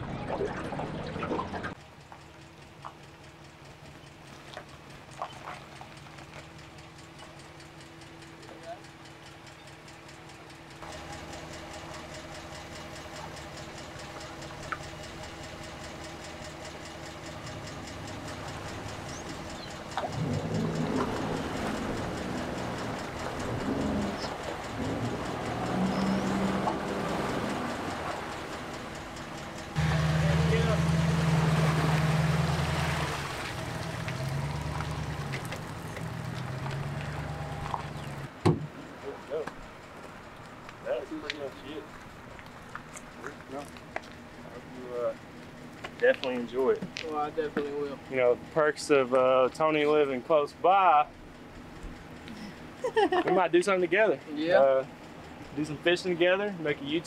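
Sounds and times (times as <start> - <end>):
engine idling with ticking: 1.7 - 57.0.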